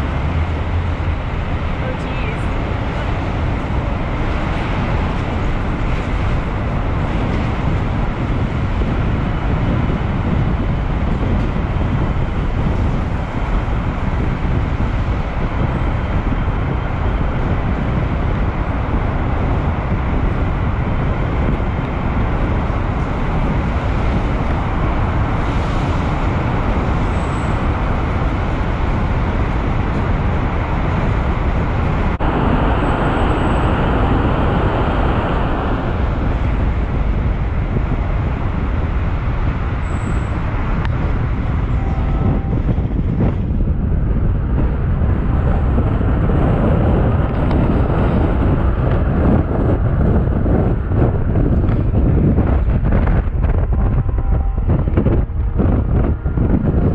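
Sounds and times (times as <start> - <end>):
car road and engine noise: 0.0 - 56.9.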